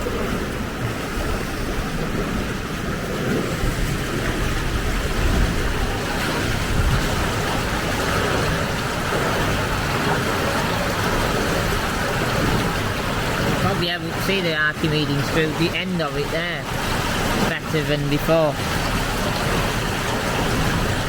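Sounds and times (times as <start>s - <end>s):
water rushing through screw generator: 0.0s - 21.0s.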